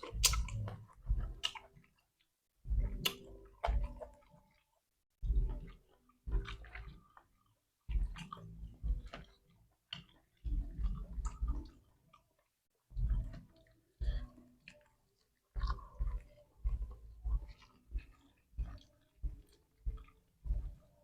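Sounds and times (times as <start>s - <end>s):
chewing and eating mouth sounds: 0.0s - 21.0s.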